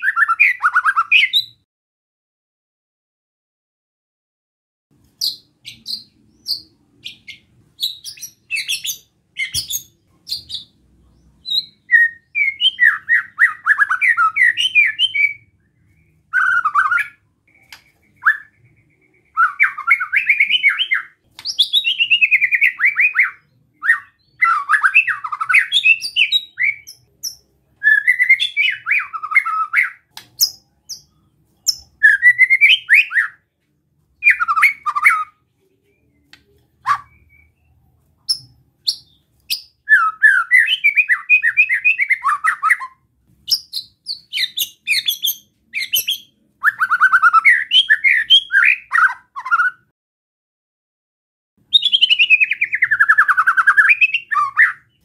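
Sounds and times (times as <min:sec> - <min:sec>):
bird singing: 0:05.1 - 0:33.6, 0:34.2 - 0:49.8, 0:51.7 - 0:55.0.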